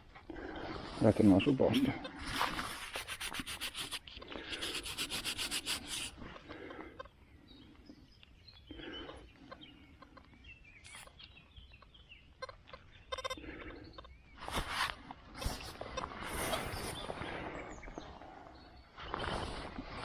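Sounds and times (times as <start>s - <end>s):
faint chirps: 0.4s - 20.0s.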